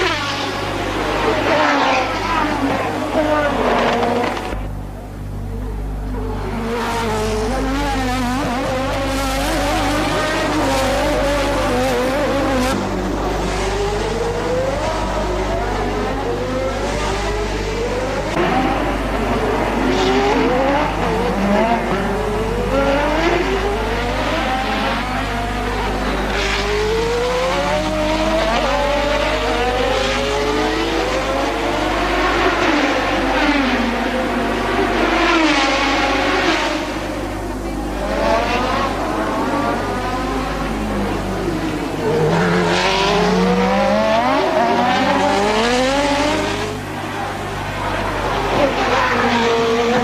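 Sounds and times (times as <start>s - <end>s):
race car engines accelerating: 0.0s - 50.0s.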